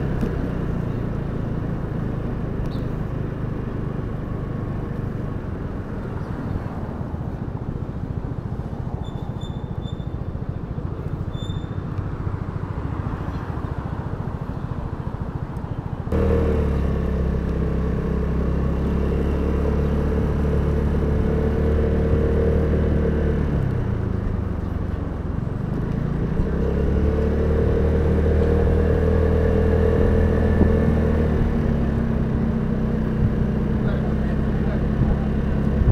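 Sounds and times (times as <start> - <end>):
scooter engine: 0.0 - 35.9
wind and road noise: 0.0 - 35.9.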